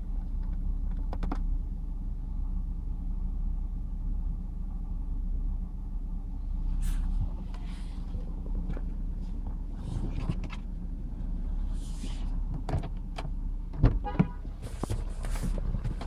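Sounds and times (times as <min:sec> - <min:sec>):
car engine idling: 0:00.0 - 0:16.0
engine ticks and knocks: 0:00.0 - 0:16.0.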